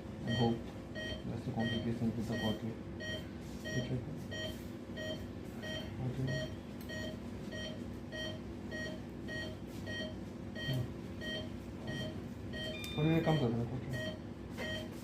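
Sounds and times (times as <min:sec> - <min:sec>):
patient monitor beeping: 0:00.2 - 0:15.0.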